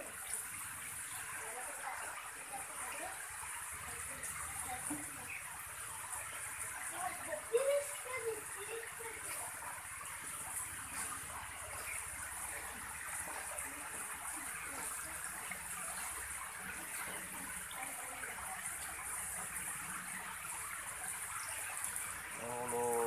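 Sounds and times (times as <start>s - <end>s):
water jets splashing into tanks: 0.0s - 23.0s.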